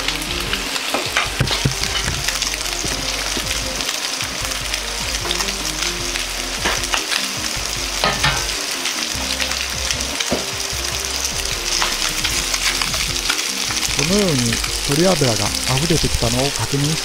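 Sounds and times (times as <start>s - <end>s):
chicken skin sizzling in a frying pan: 0.0s - 17.0s
fat crackling and popping: 0.0s - 17.0s.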